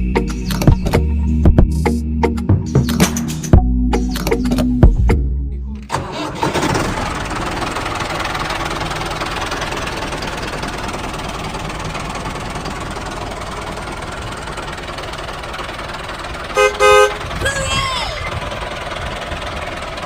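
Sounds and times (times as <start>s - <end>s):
engine running steadily: 2.8s - 20.0s.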